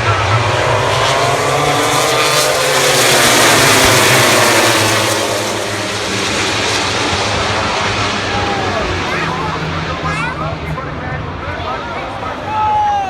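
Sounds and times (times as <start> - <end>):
racing motorcycle engines at full throttle: 0.0 - 13.0.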